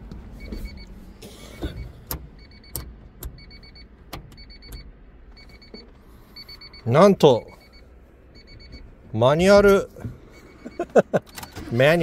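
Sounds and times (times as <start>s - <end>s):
low steady rumble: 0.0s - 11.2s
car warning chime beeps: 0.4s - 1.0s, 1.7s - 12.0s.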